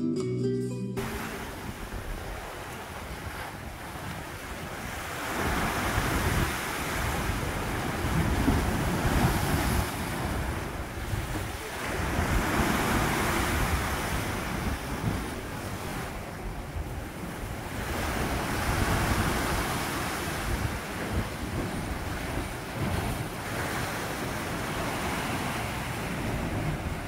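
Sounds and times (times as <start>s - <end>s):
sea surf in rocky inlet: 1.0s - 27.0s.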